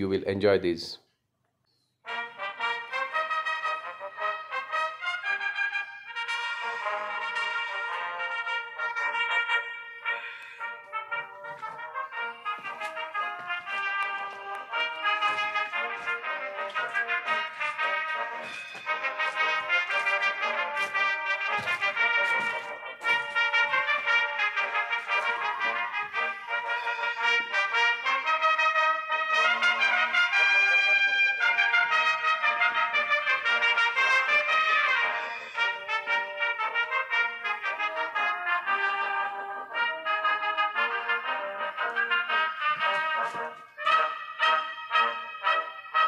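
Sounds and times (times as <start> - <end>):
instrumental music with brass melody: 2.0 - 46.0.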